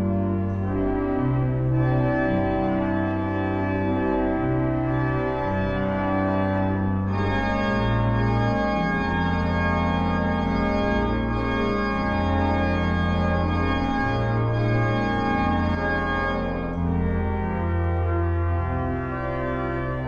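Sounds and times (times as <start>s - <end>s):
pipe organ chords: 0.0s - 20.0s.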